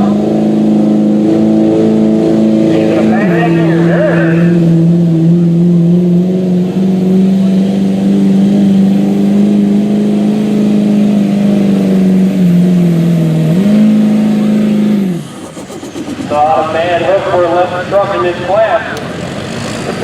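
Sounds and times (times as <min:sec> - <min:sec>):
truck engine at high revs: 0:00.0 - 0:20.0.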